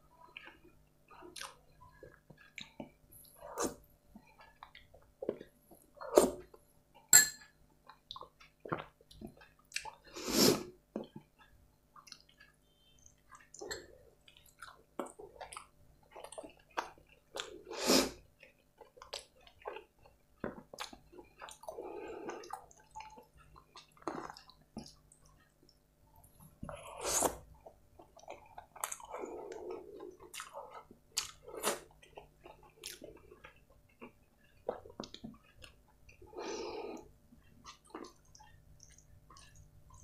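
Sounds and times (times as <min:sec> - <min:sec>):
wet chewing and lip-smacking: 0:00.2 - 0:06.6, 0:07.8 - 0:10.1, 0:10.9 - 0:17.6, 0:18.2 - 0:40.0.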